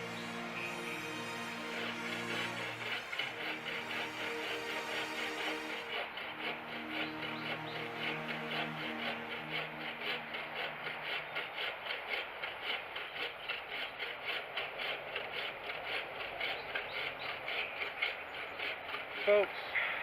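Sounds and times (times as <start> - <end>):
saw cutting through wood: 0.0 - 19.4.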